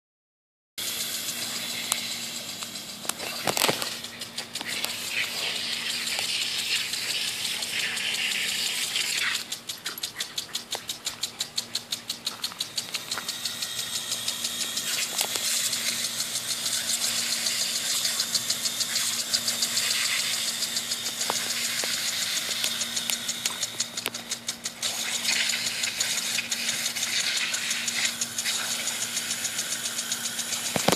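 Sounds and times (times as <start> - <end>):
sprinkler head clicking: 0.8 - 30.9
sprinkler spraying hiss: 0.8 - 30.9.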